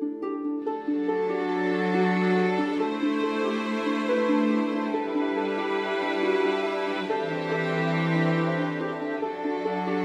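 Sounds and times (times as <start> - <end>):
plucked notes: 0.0 - 10.0.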